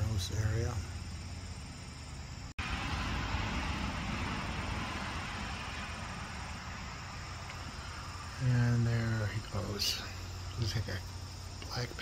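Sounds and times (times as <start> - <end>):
outdoor background hum and hiss: 0.0 - 12.0.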